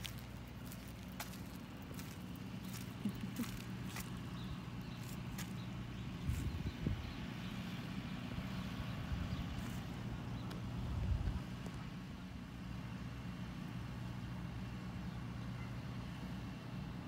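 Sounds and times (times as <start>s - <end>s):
road traffic engine hum: 0.0s - 17.0s.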